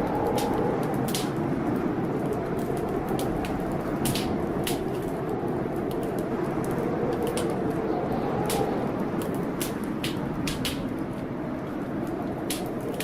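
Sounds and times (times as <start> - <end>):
blizzard wind moaning: 0.0 - 13.0
fireplace fire crackling: 0.0 - 13.0.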